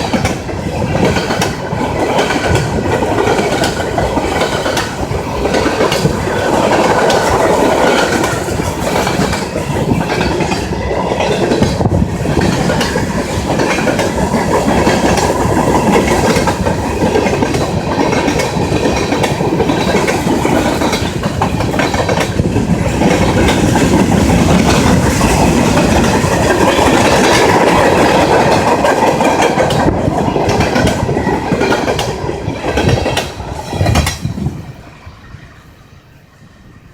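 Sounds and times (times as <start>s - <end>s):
train wheels clattering over rail joints: 0.0s - 34.6s.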